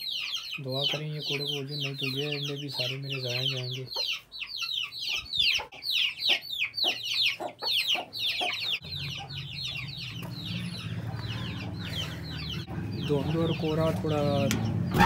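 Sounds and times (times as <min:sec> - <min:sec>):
birds chirping fast: 0:00.0 - 0:15.0.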